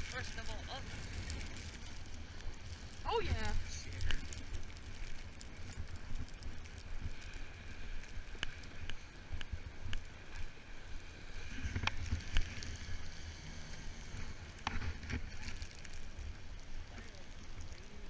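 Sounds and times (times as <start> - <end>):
sharp clicks and crackles: 0.0 - 18.0.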